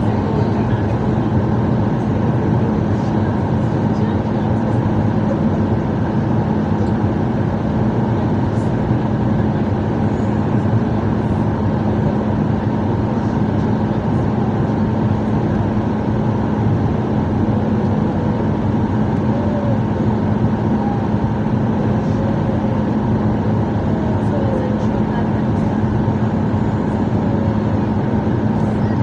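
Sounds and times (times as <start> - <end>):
airliner cabin drone: 0.0 - 29.0.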